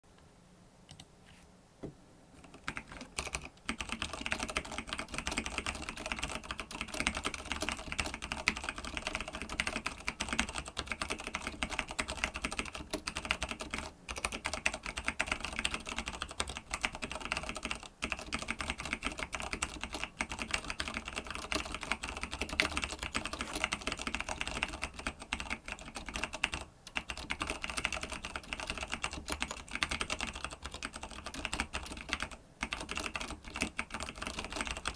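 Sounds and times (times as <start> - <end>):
fast keyboard typing: 2.4 - 34.9.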